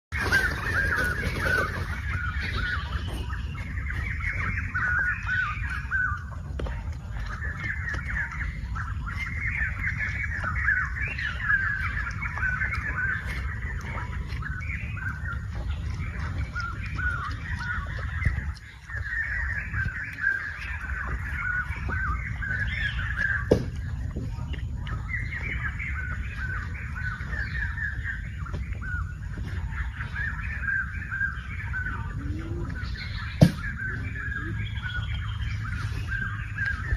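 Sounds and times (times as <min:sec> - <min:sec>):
birds chattering: 0:00.1 - 0:36.9
low rumble: 0:00.1 - 0:36.9.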